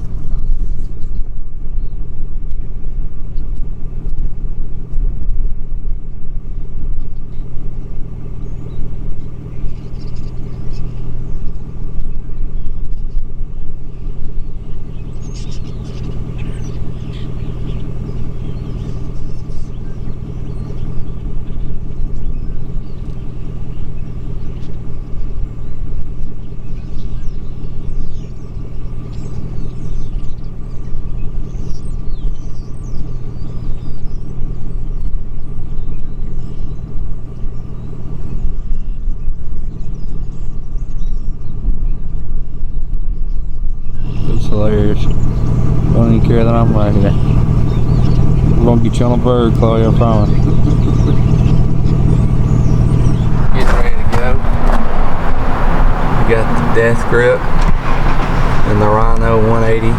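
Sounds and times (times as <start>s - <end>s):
vehicle engine rumbling: 0.0s - 59.9s.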